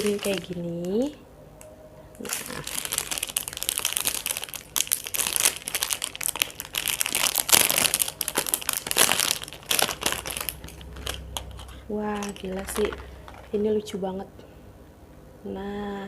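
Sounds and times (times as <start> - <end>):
packaging crinkling and rustling: 0.0 - 1.2, 2.2 - 13.9.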